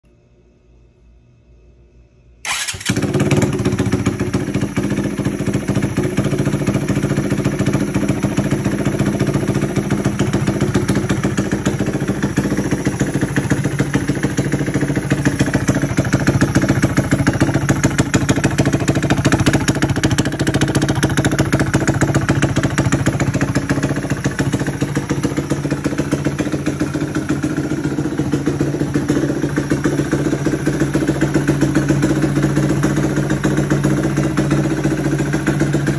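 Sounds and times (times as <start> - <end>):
motorcycle engine idling: 2.4 - 35.9.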